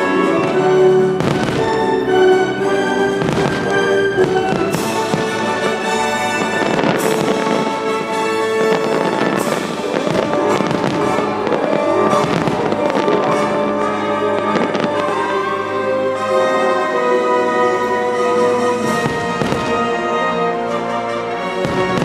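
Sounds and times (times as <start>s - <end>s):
fireworks bursting: 0.0s - 20.6s, 21.5s - 22.0s
orchestral music: 0.0s - 22.0s.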